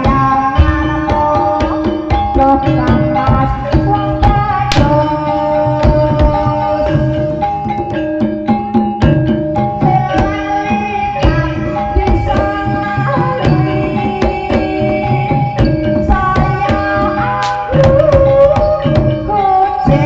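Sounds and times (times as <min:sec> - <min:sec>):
ringing tuned percussion melody: 0:00.0 - 0:20.0.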